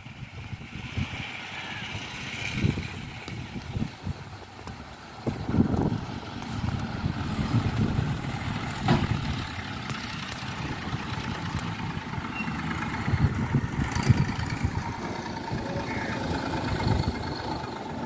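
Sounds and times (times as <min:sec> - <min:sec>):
idling engine rumble: 0:00.0 - 0:18.0.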